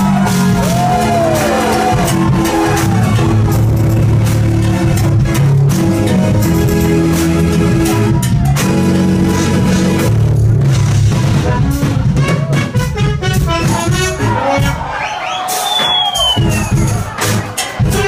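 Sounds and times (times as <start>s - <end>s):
jazz fusion band playing: 0.0s - 18.0s.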